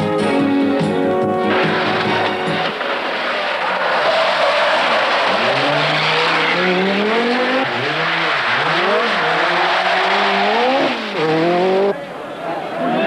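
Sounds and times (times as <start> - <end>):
rally car engine revving: 0.5 - 12.8.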